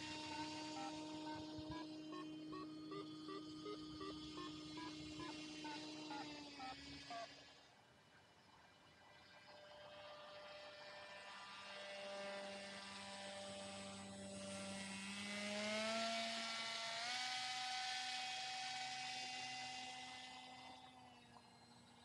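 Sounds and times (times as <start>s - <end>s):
model aircraft motor humming: 0.0s - 22.0s.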